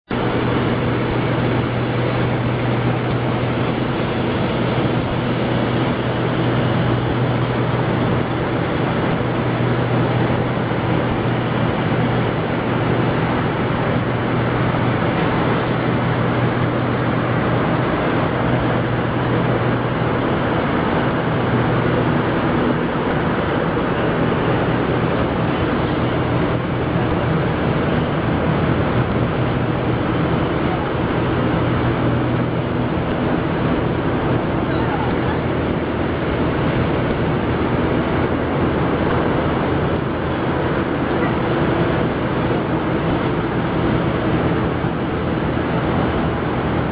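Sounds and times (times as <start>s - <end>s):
low hum: 0.0s - 46.9s
loud machinery noise: 0.1s - 46.9s.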